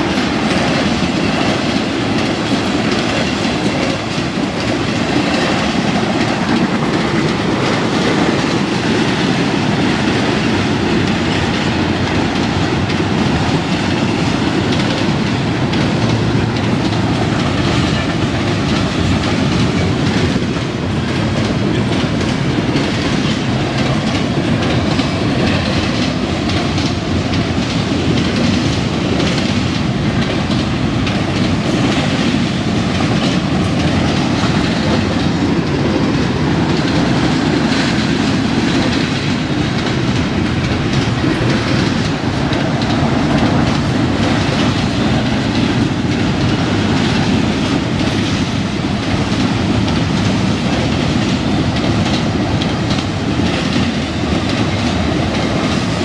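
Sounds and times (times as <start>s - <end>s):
train wheels rumbling on rails: 0.0s - 56.0s
wheels clattering over rail joints: 0.0s - 56.0s.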